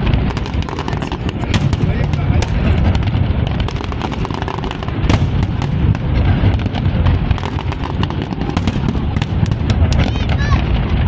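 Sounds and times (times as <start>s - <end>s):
fireworks crackling and popping: 0.0s - 11.0s
loud firework bang: 0.0s - 11.0s
low rumble of shell bursts: 0.0s - 11.0s.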